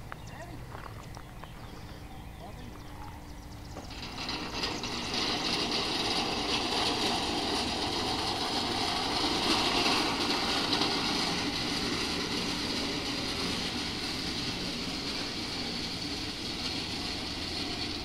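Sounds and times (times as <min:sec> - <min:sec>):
scooter rolling on pavement: 0:00.0 - 0:18.0.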